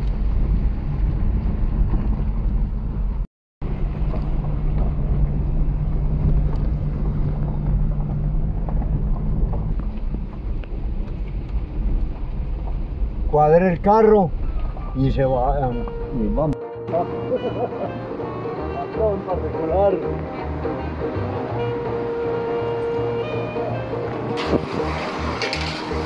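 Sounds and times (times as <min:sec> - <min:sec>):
car engine droning: 0:00.0 - 0:15.2, 0:17.0 - 0:26.0
tyres rumbling on dirt road: 0:00.0 - 0:26.0.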